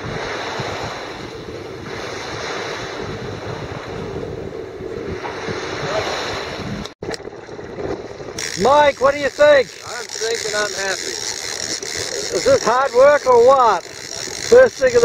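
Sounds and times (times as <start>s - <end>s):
water rushing along hull: 0.0s - 15.0s
wind rumbling on microphone: 0.0s - 15.0s.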